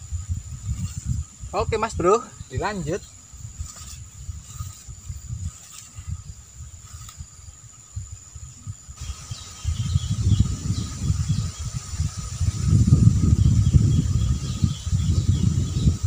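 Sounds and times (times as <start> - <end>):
high-pitched insect drone: 0.0 - 16.0
wind buffeting microphone: 0.0 - 16.0.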